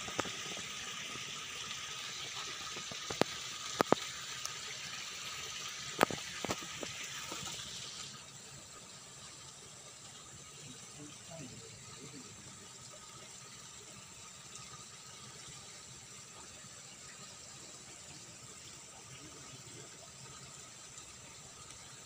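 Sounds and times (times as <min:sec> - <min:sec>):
water jets splashing into pond: 0:00.0 - 0:22.0.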